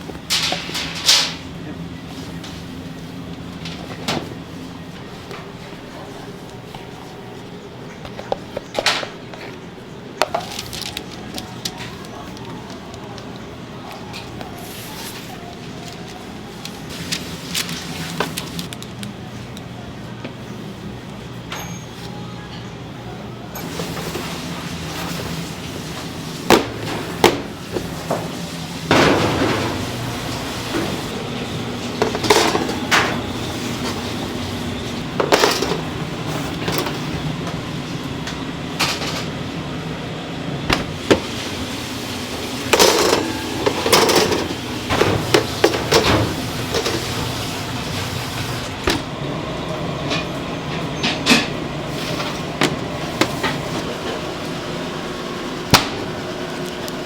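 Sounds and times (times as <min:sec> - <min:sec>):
trays and utensils clattering: 0:00.0 - 0:19.1, 0:23.6 - 0:39.7, 0:40.6 - 0:54.2
low machine hum: 0:00.0 - 0:57.0.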